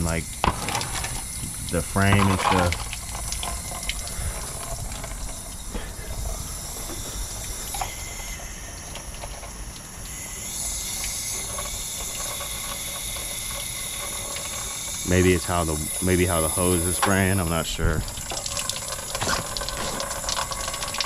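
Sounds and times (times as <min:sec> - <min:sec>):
water splashing onto metal: 0:00.0 - 0:21.0.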